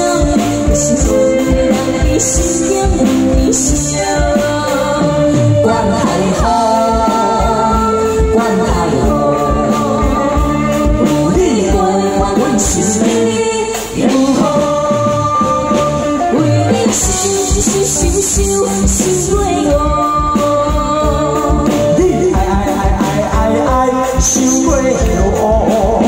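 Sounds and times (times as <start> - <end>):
live band playing: 0.0 - 26.0
man and woman singing: 0.0 - 26.0
steady drum beat: 0.0 - 26.0.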